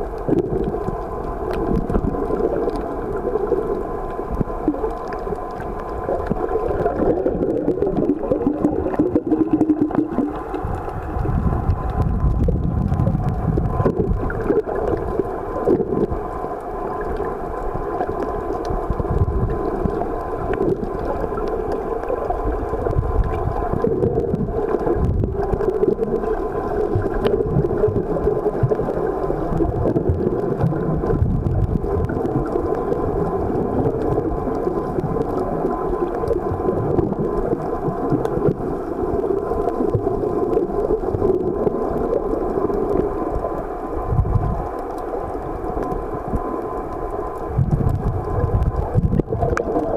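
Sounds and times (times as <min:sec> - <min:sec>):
faint steady hum: 0:00.0 - 0:49.9
muffled underwater rumble: 0:00.0 - 0:49.9.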